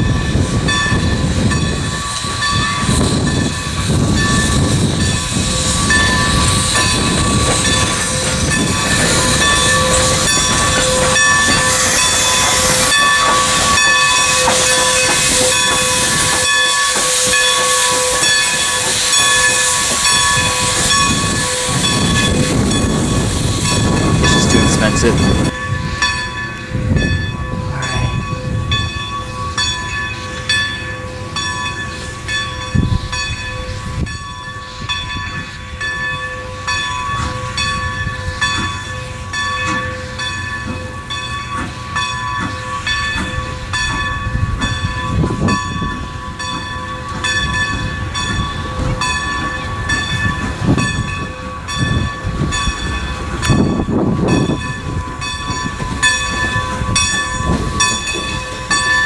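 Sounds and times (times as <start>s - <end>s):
train rumble: 0.0s - 59.0s
train wheels clacking on track: 0.0s - 59.0s.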